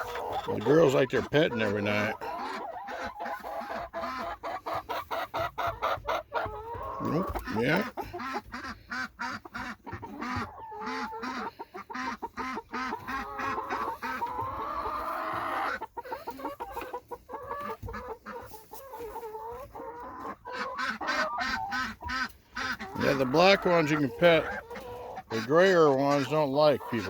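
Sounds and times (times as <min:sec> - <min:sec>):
hens clucking: 0:00.0 - 0:27.0
hens wavering calls: 0:00.0 - 0:27.0.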